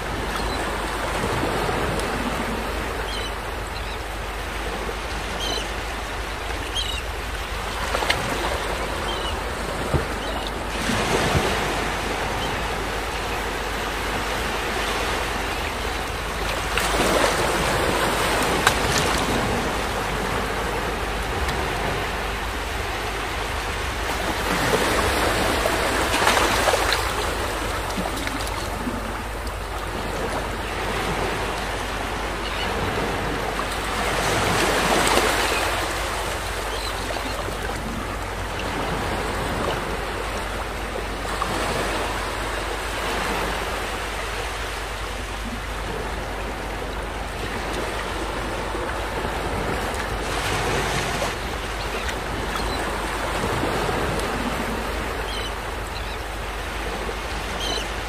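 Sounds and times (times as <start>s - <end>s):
waves washing up a sandy beach: 0.0s - 58.0s.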